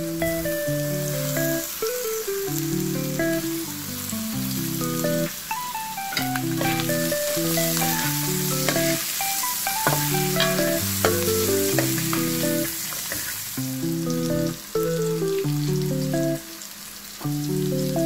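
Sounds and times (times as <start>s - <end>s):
background music: 0.0s - 12.8s, 13.6s - 16.6s, 17.2s - 18.0s
food sizzling in frying pan: 0.0s - 18.0s.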